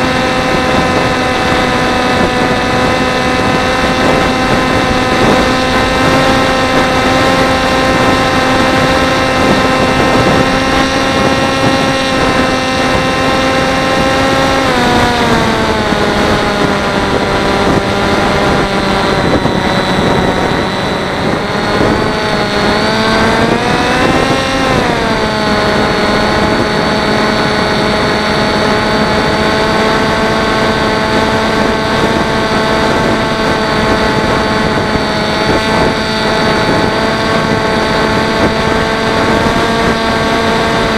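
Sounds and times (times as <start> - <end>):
electric motor propeller whine: 0.0 - 40.9
wind rush: 0.0 - 40.9.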